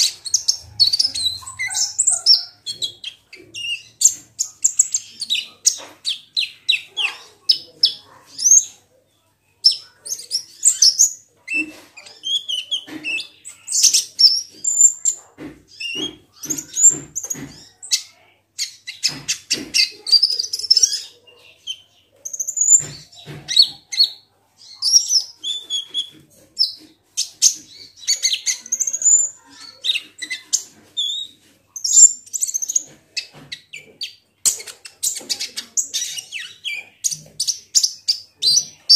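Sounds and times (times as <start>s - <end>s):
bird chirping and trilling: 0.0s - 8.8s, 9.6s - 38.9s.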